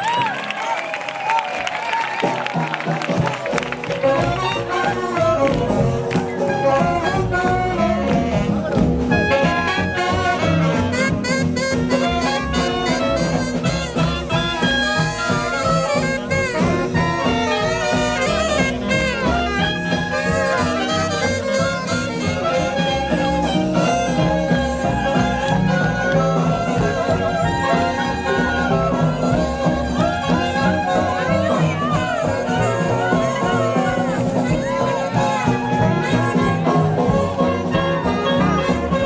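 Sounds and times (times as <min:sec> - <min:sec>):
swing jazz band playing: 0:01.6 - 0:39.0.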